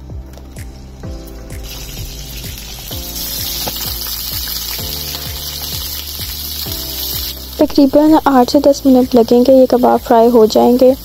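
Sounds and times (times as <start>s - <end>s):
background music with steady beat: 0.0s - 11.0s
meat sizzling in hot oil: 1.5s - 11.0s.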